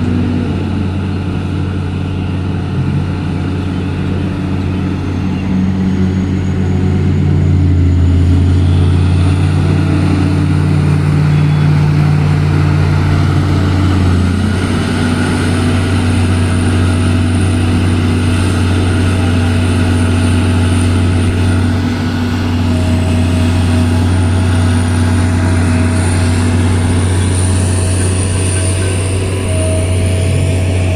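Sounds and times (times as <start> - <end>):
heavy diesel machinery engine drone: 0.0 - 30.9.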